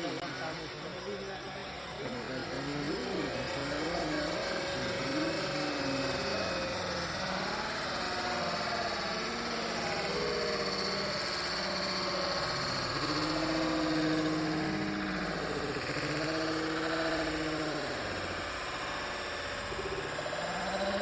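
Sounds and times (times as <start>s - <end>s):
model bulldozer drone: 0.0s - 21.0s.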